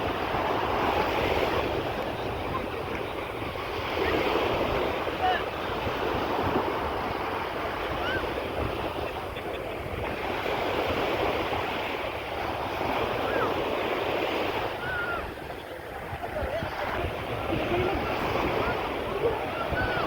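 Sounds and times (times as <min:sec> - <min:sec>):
sea waves washing onto beach: 0:00.0 - 0:20.0
wind buffeting microphone: 0:00.0 - 0:20.0.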